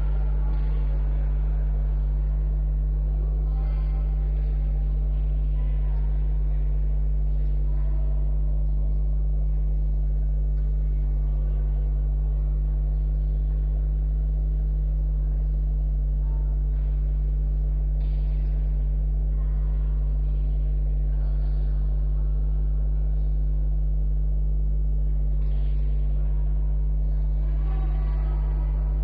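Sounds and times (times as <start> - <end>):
faint indistinct background sounds: 0.0 - 29.0
steady low hum: 0.0 - 29.0.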